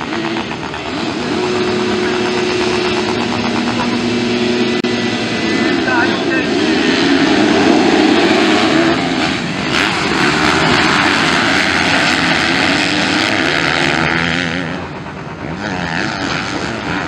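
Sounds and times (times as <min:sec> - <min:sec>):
motocross bikes revving and accelerating: 0:00.0 - 0:17.0.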